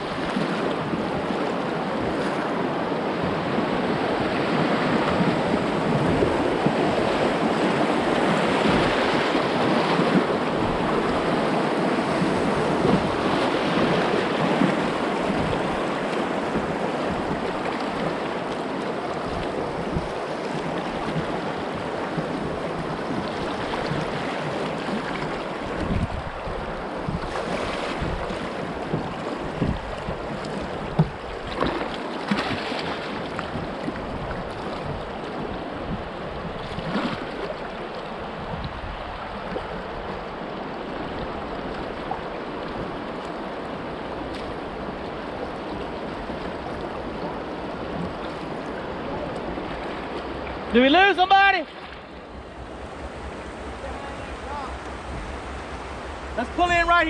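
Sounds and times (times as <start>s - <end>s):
paddle strokes knocking and splashing: 0.0s - 57.0s
river rapids rushing: 0.0s - 57.0s.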